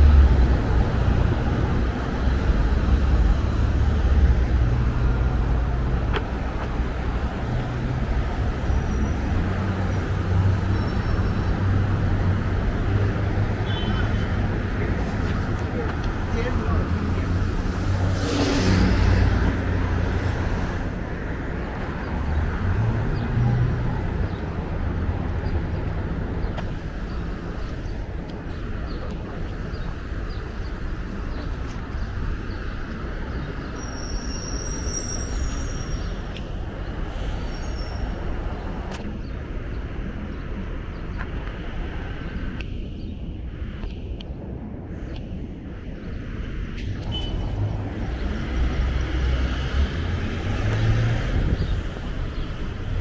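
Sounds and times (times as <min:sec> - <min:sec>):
road noise of passing cars: 0:00.0 - 0:53.0.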